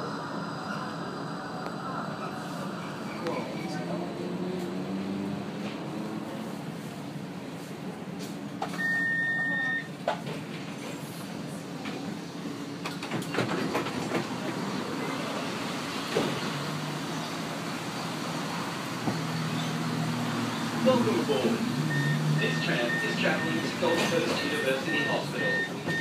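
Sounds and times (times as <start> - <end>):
tram rumbling on track: 0.0 - 26.0.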